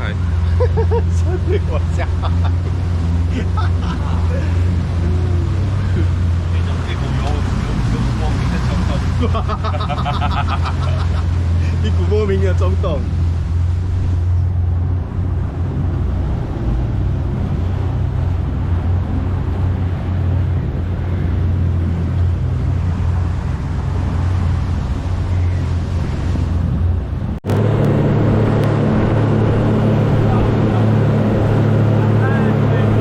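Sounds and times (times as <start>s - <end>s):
boat engine droning: 0.0s - 33.0s
rushing water noise: 0.0s - 33.0s
smooth engine hum: 0.0s - 33.0s.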